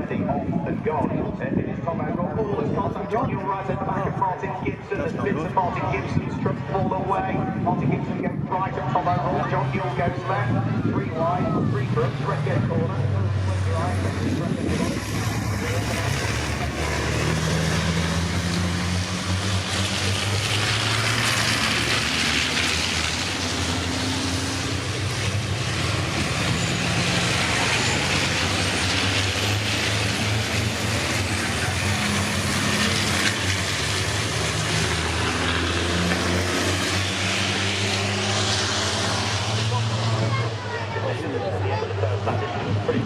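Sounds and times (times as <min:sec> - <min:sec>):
racing truck diesel engines: 0:00.0 - 0:43.0.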